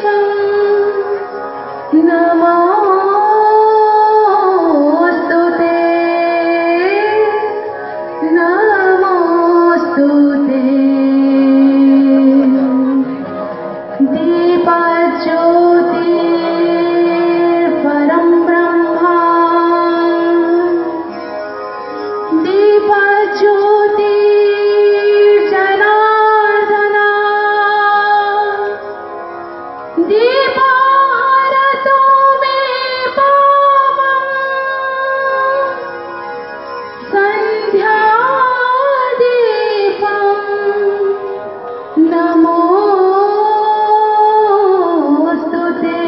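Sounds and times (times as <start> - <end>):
woman singing: 0.0 - 13.2, 14.0 - 21.0, 22.3 - 28.8, 30.0 - 35.8, 37.0 - 41.3, 42.0 - 46.0.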